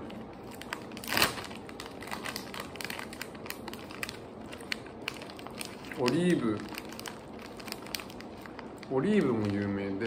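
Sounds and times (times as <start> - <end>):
plastic snack bag crinkling: 0.0 - 10.0.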